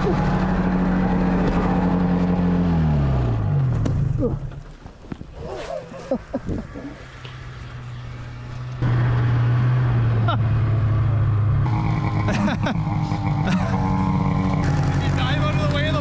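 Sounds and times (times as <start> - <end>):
snowmobile engine running: 0.0 - 3.5, 6.1 - 16.0.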